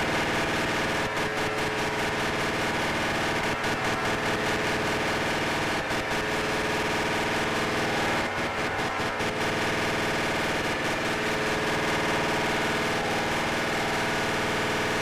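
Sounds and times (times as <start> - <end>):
modular synthesizer drone: 0.0 - 15.0.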